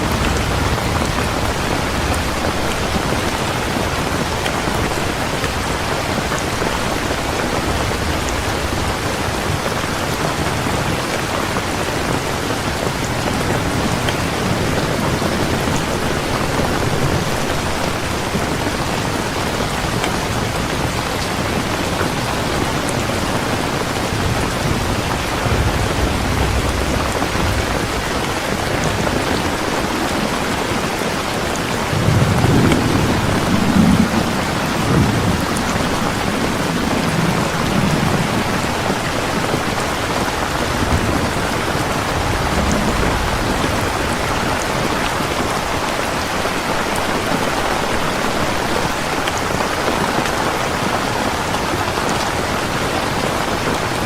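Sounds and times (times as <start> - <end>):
heavy rain falling: 0.0 - 54.0
thunder rumbling: 0.0 - 54.0.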